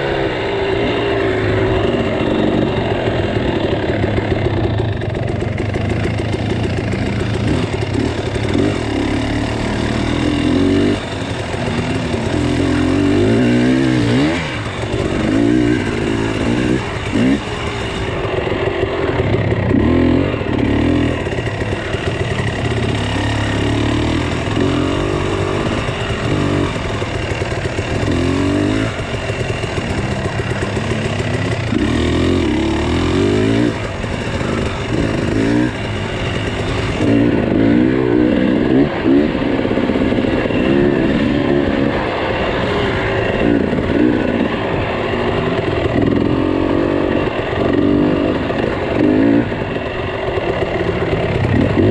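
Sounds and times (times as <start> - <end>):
small engine revving: 0.0 - 51.9.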